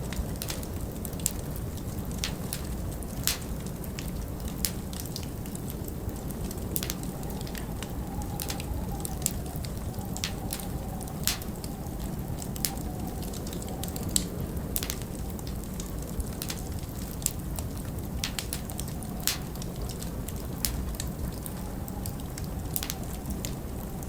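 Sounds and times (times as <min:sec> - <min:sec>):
log fire crackling: 0:00.0 - 0:24.0
storm wind rumble: 0:00.0 - 0:24.0.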